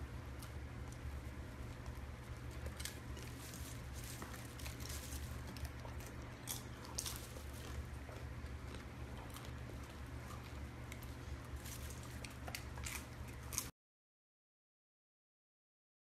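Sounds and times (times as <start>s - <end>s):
steady low hum: 0.0s - 13.7s
dog chewing popcorn: 0.2s - 13.7s.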